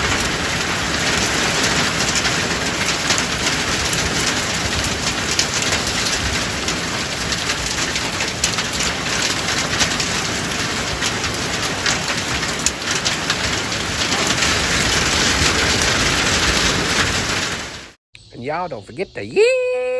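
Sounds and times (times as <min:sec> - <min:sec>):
rain falling: 0:00.0 - 0:18.0
raindrops pattering on hard surfaces: 0:00.0 - 0:18.0.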